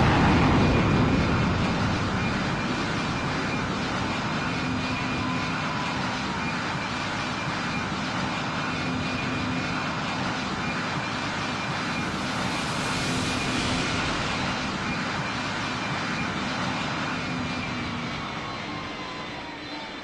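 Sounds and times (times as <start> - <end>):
airplane engines passing by: 0.0 - 20.0.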